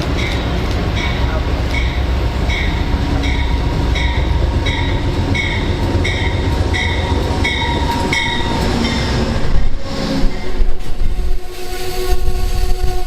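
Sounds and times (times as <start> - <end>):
train rumbling by: 0.0 - 13.0.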